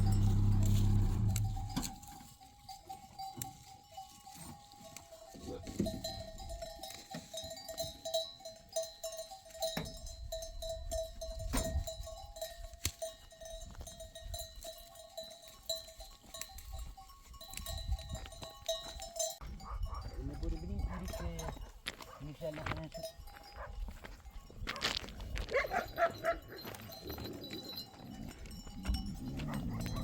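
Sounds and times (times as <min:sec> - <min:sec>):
livestock bells clanking: 0:00.0 - 0:30.0.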